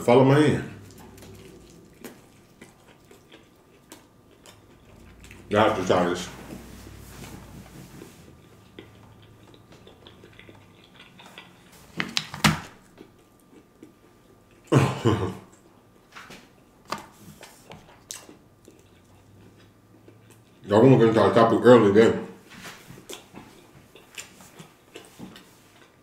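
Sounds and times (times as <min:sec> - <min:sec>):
pizza crust chewing: 0:00.5 - 0:14.8, 0:15.4 - 0:21.0, 0:22.6 - 0:26.0.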